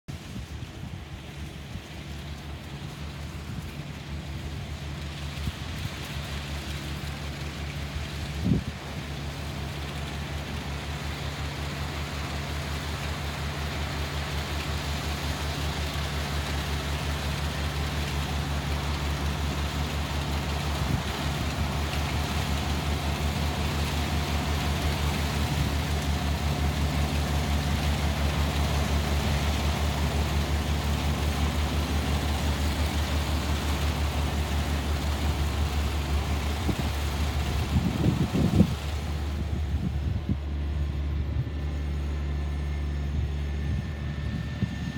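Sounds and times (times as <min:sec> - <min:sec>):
combine harvester engine drone: 0:00.1 - 0:44.9
threshing machinery clatter: 0:01.4 - 0:39.9.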